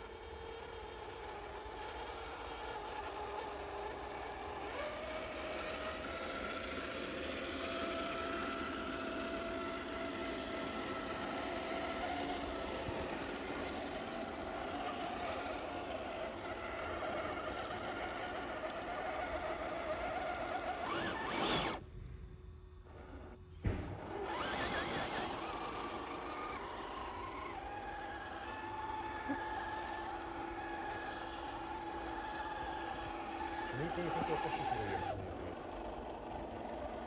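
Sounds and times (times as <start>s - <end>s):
electric motor and gears whining: 0.0s - 37.0s.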